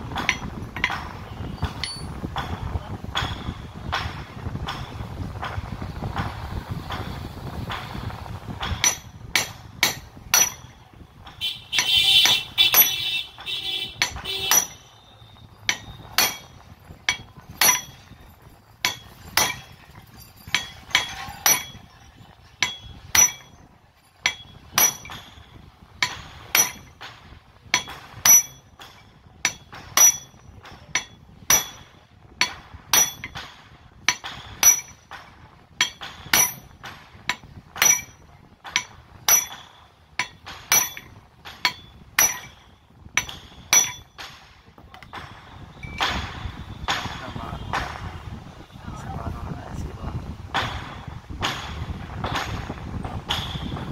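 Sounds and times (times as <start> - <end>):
hammer striking metal: 0.0 - 48.3.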